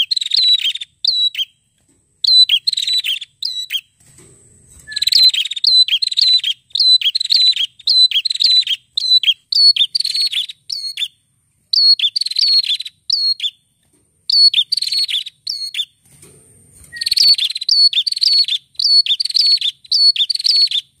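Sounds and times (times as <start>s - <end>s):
bird singing whistles and buzzing trills: 0.0s - 1.6s, 2.2s - 4.0s, 4.8s - 13.6s, 14.2s - 16.0s, 16.9s - 21.0s.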